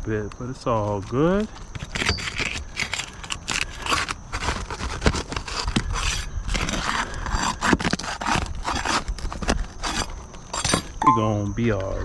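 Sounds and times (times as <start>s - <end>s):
roof shingles being scraped: 0.9s - 11.0s.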